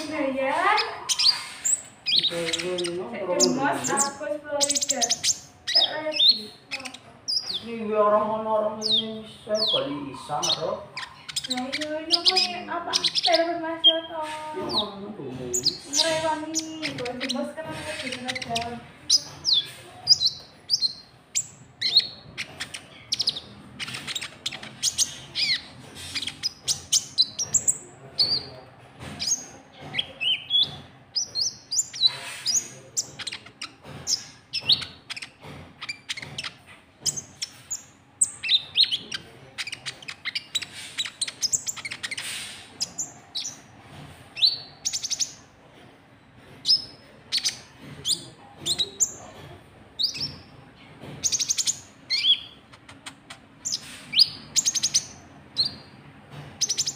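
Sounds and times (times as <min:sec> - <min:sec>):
high-pitched bird chirps: 0:00.0 - 0:07.7, 0:08.8 - 0:28.5, 0:29.2 - 0:43.6, 0:44.4 - 0:45.4, 0:50.0 - 0:50.5, 0:51.2 - 0:55.9, 0:56.6 - 0:56.9.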